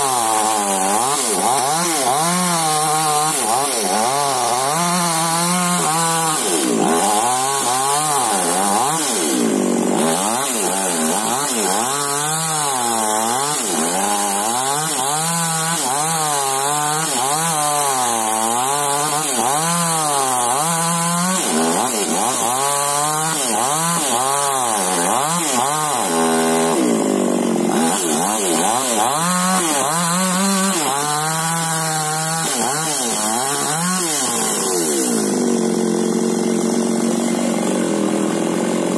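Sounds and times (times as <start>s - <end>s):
chainsaw cutting a tree: 0.0s - 38.9s.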